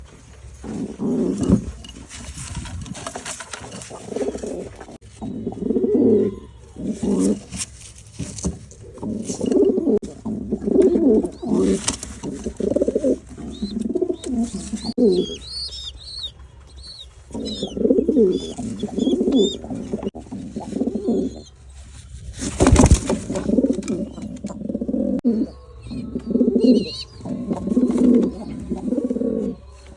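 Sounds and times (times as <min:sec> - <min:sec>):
pigeons cooing: 0:00.6 - 0:07.7, 0:08.8 - 0:21.6, 0:22.6 - 0:29.9.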